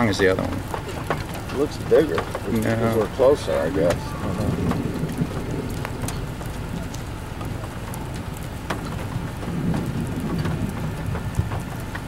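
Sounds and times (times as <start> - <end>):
low rumble: 0.0 - 12.0
rain falling: 0.0 - 12.0
raindrops ticking: 0.0 - 12.0.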